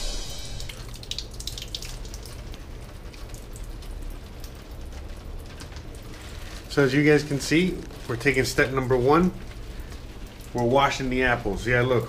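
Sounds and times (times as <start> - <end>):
drips and splashes: 0.0 - 12.0
tap water running and splashing: 0.0 - 12.0.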